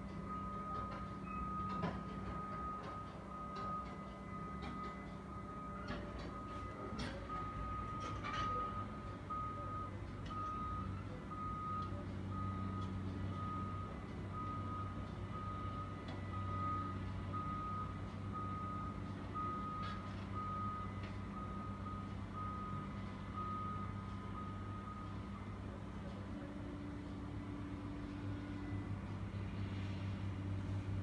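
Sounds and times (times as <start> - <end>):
back-up alarm beeping: 0.1 - 25.5.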